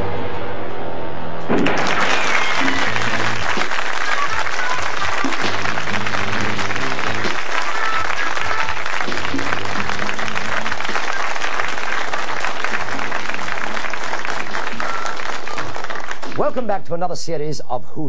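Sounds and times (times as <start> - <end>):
audience applauding: 1.5 - 16.6
theme music with bass line: 1.7 - 16.6.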